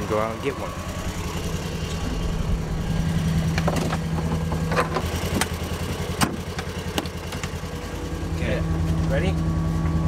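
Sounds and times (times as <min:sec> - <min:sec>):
utility vehicle engine idling: 0:00.0 - 0:10.0.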